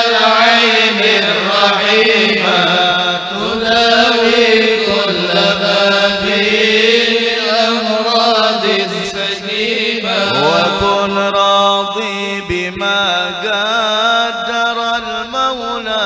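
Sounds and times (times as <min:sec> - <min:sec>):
men chanting through microphones: 0:00.0 - 0:16.0.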